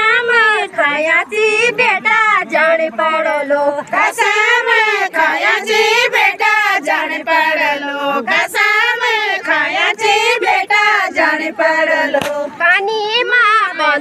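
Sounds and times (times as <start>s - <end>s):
women singing folk song: 0.0s - 14.0s.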